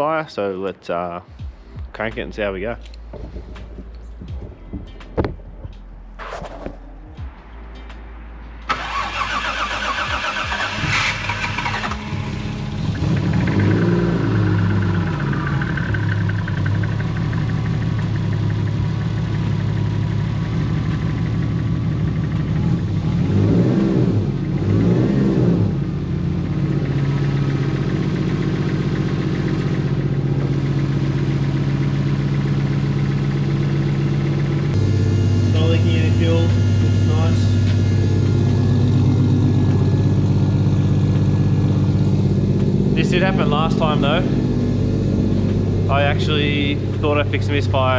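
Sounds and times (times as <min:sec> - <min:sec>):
car engine starting and idling: 0:01.4 - 0:47.9
engine revving: 0:08.6 - 0:47.9.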